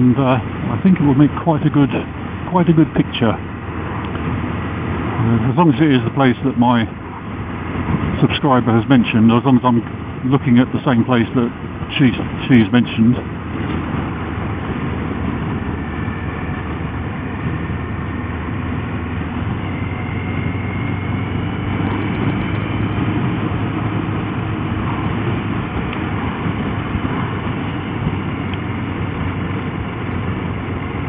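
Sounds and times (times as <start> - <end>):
motorcycle engine cruising: 0.0 - 31.0
wind and road noise: 0.0 - 31.0.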